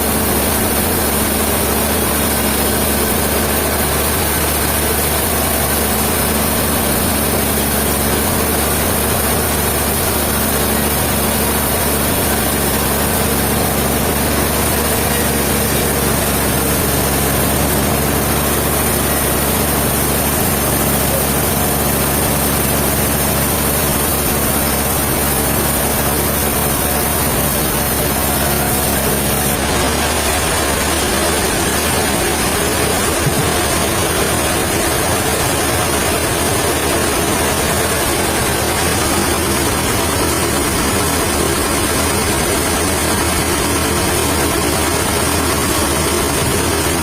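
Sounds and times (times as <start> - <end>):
heavy machinery running: 0.0 - 47.0.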